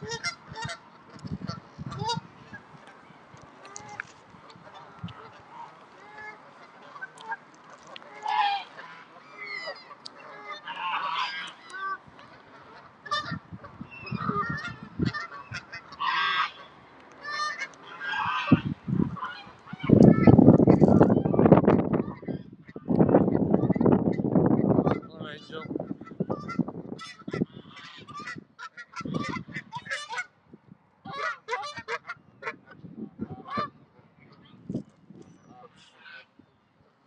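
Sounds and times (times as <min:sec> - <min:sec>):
geese honking: 0:00.0 - 0:03.0, 0:03.6 - 0:30.4, 0:31.0 - 0:33.8.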